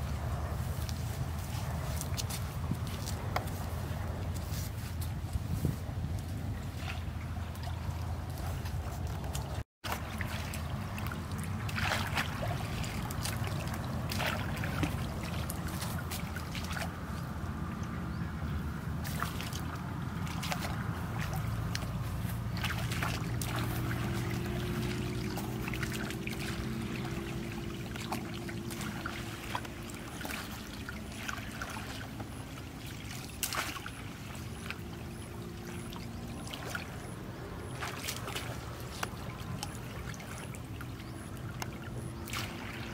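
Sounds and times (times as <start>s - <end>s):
muddy water splashing: 0.0s - 42.9s.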